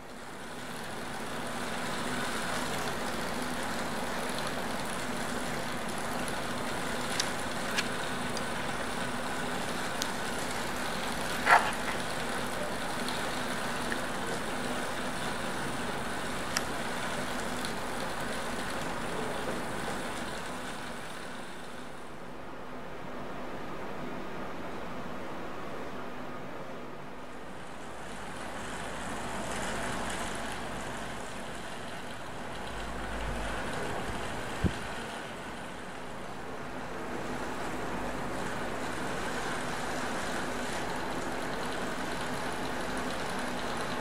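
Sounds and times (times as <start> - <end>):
mechanical drone with low hum: 0.0 - 44.0.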